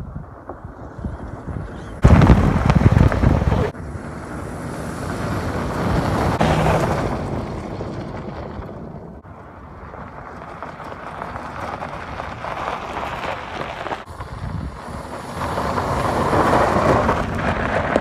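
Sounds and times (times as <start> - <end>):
road and wind noise: 0.0 - 18.0
car driving at speed: 0.6 - 18.0.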